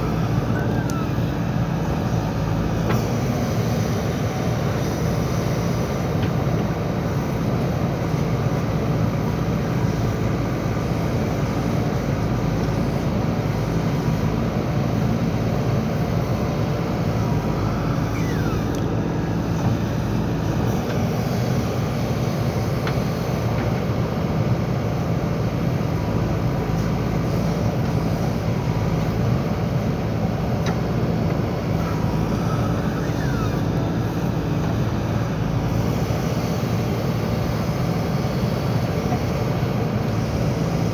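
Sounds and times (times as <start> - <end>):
backhoe diesel engine drone: 0.0 - 40.9.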